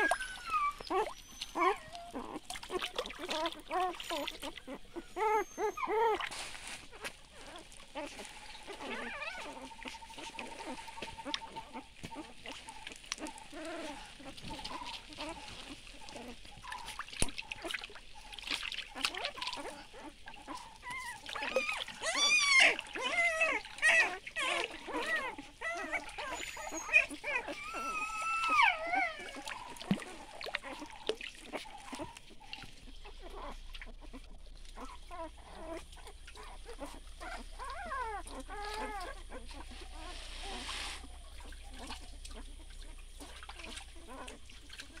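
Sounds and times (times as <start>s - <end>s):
puppies whimpering and squealing: 0.0s - 45.0s
water splashing: 0.0s - 45.0s.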